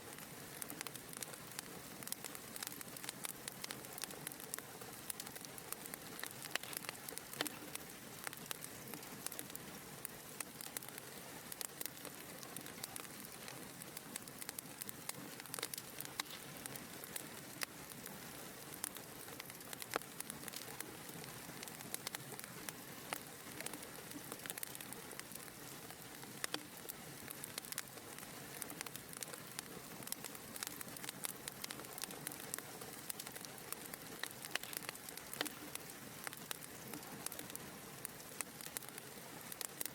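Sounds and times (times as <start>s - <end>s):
low hiss: 0.0s - 39.9s
wood fire crackling and popping: 0.0s - 39.9s.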